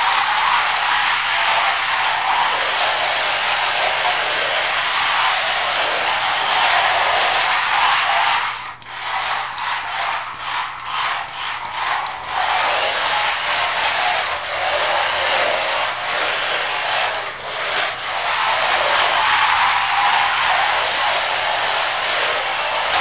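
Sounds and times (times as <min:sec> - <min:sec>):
rc car motor whine: 0:00.0 - 0:23.0
tyres scrubbing on wooden floor: 0:00.0 - 0:23.0.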